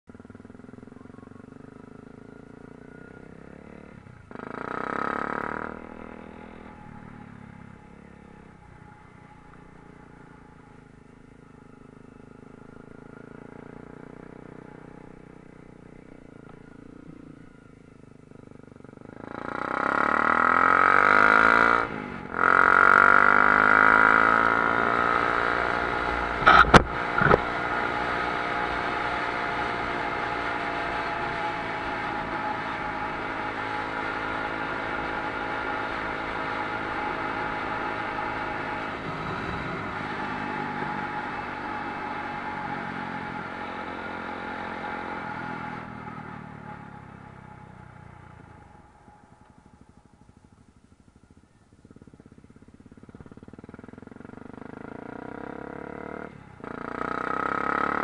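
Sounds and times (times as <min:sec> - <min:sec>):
motorcycle engine revving: 0:00.1 - 0:58.0.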